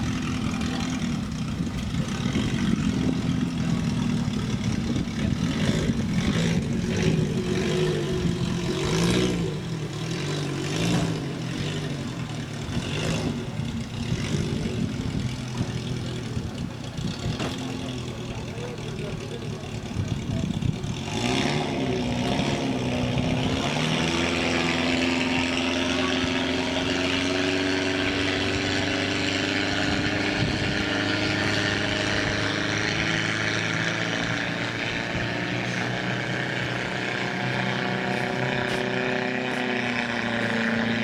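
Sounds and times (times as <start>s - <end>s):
speedboat engine running: 0.0s - 41.0s.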